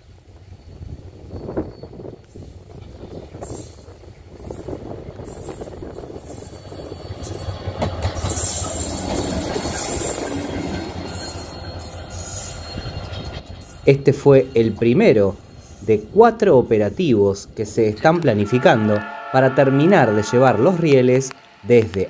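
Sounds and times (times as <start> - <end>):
diesel locomotive engine: 0.0 - 22.0
train wheels on rails: 0.0 - 22.0.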